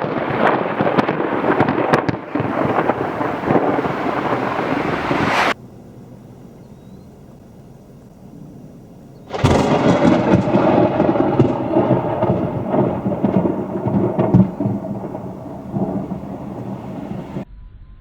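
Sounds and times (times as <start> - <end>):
thunder crack and rumble: 0.0 - 5.6, 8.3 - 17.5.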